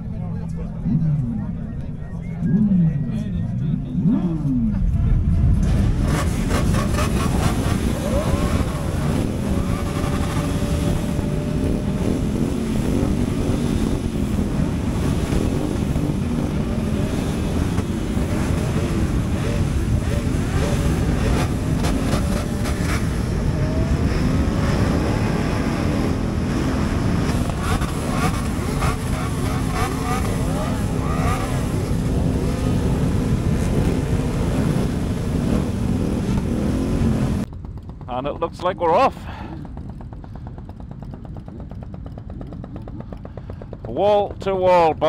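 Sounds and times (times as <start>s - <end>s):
motorcycle engines idling and revving: 0.0s - 45.0s.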